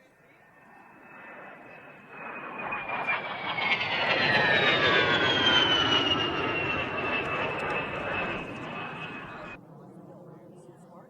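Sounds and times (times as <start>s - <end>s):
jet engine whine: 0.0s - 10.8s
jet rushing roar: 0.1s - 9.6s.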